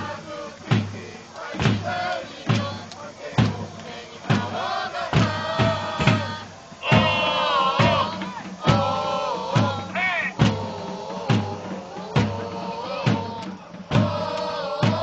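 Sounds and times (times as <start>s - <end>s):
bass drum beats: 0.0s - 15.0s
crowd singing a chant: 0.0s - 15.0s.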